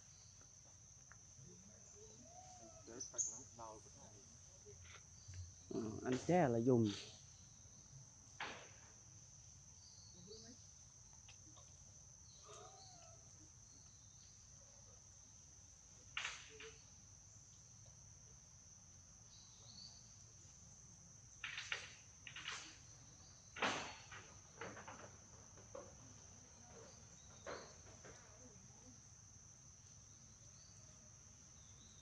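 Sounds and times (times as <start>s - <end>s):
insects droning in trees: 0.0s - 32.0s.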